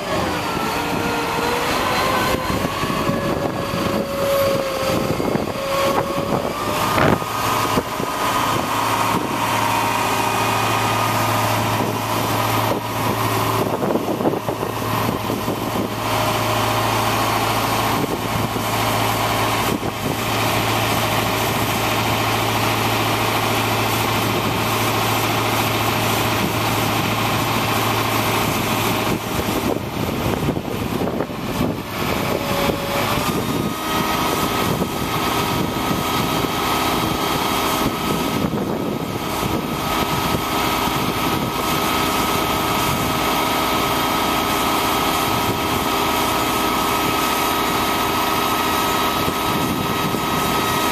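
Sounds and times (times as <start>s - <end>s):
steady low drone: 0.0s - 50.9s
truck engine running: 0.0s - 50.9s.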